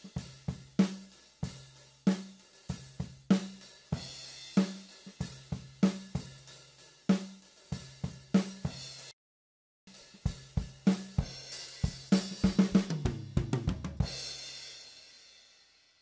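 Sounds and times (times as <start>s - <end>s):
drum kit playing a beat: 0.0s - 9.2s, 9.9s - 15.7s
hi-hat and cymbals: 0.0s - 9.2s, 9.9s - 16.0s.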